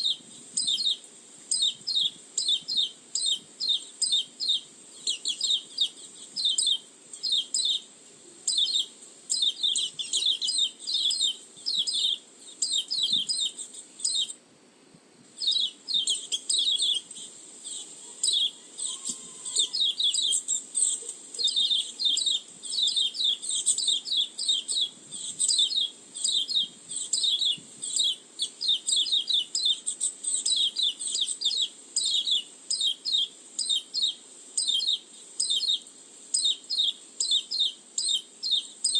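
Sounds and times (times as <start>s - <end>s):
rapid high bird chirps: 0.0s - 14.4s, 15.4s - 38.9s.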